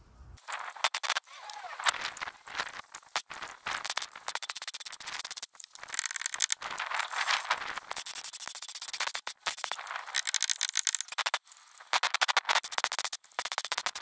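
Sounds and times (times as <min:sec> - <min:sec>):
welder crackling: 0:00.4 - 0:14.0.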